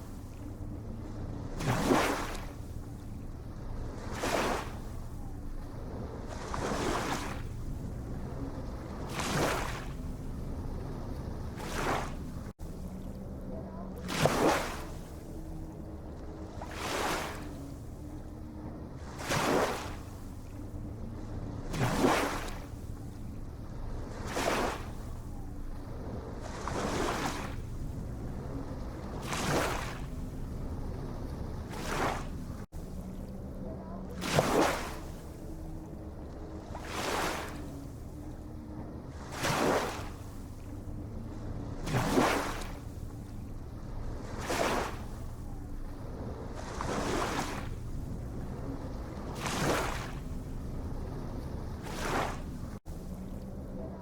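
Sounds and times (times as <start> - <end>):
low rumble of ocean: 0.0 - 54.0
surf washing on shore: 0.0 - 54.0.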